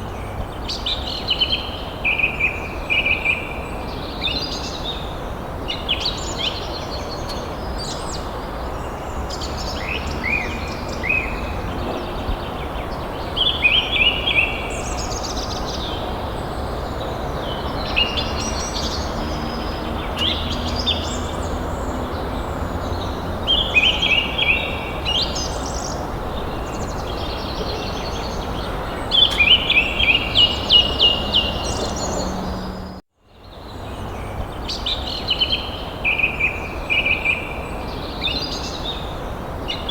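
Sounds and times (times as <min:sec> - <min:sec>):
birds chirping and singing: 0:00.0 - 0:33.0.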